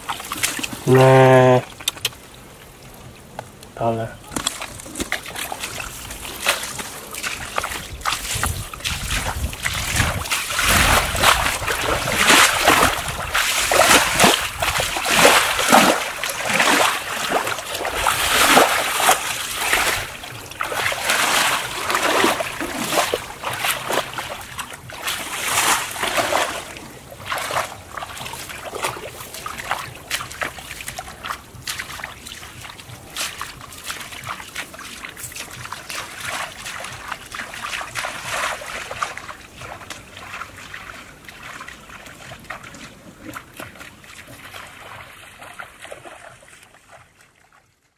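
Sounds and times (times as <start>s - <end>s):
feet splashing through muddy water: 0.0s - 47.9s.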